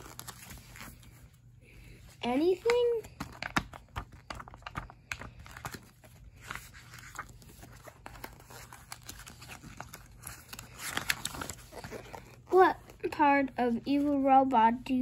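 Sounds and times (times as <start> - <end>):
book pages flipping: 0.0 - 13.1.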